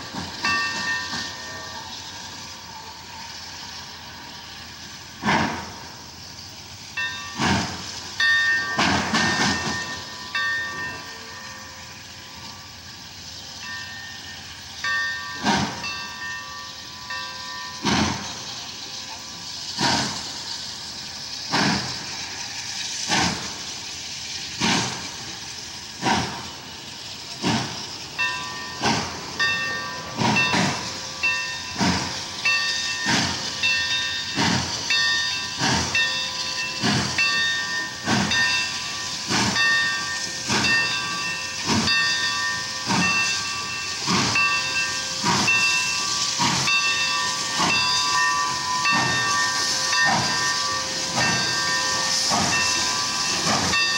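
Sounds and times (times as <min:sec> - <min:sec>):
steam hiss: 0:00.0 - 0:53.9
steam locomotive exhaust chuff: 0:00.0 - 0:53.9.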